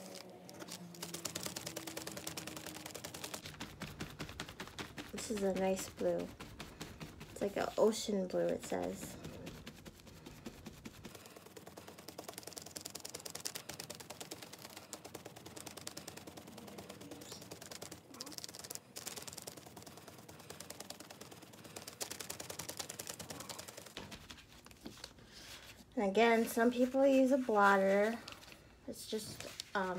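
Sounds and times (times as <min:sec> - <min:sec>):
sponge dabbing on canvas: 0:00.0 - 0:29.9.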